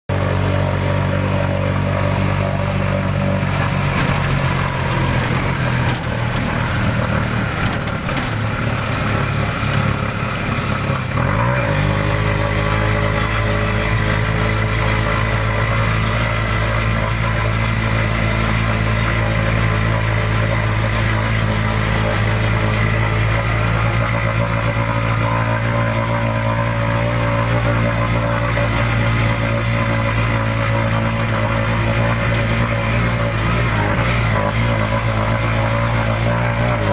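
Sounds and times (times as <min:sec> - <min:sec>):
engine running: 0:00.0 - 0:36.9.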